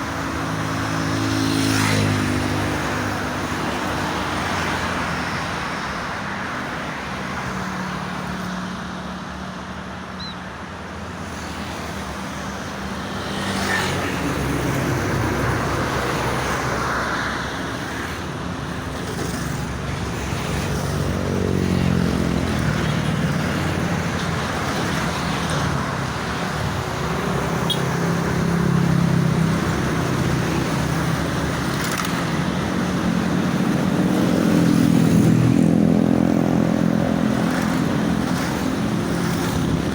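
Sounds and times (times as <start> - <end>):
passing vehicle engines droning: 0.0 - 39.9
tyres rushing on road: 0.0 - 39.9.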